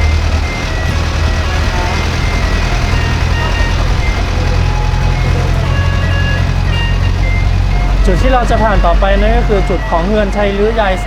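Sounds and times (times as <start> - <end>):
tinny tune of short notes: 0.0 - 11.0
tram engine humming: 0.0 - 11.0.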